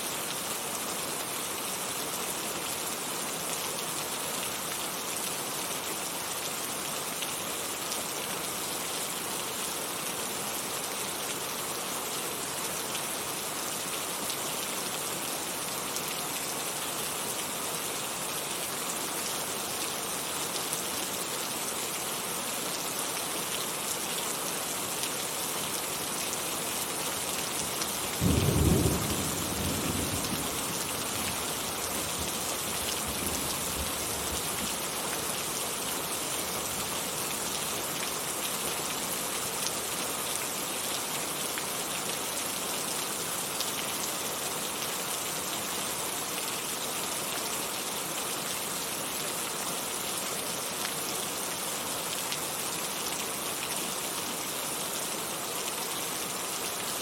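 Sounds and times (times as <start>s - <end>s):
heavy rain falling: 0.1s - 57.0s.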